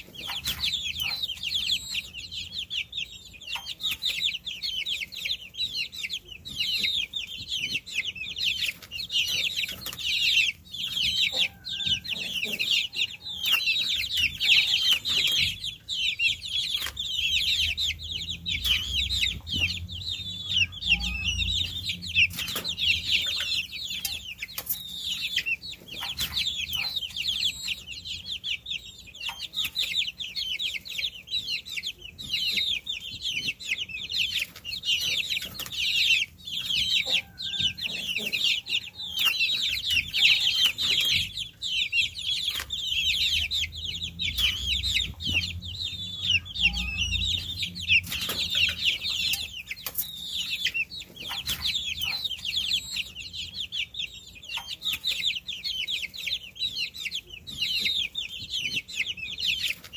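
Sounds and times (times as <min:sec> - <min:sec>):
baby chicks chirping: 0:00.0 - 0:59.9.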